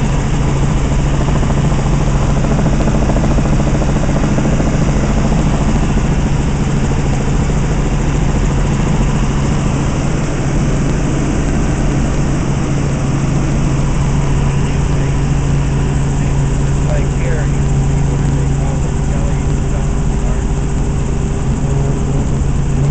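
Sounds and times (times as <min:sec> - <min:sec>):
helicopter engine and rotor drone: 0:00.0 - 0:22.9.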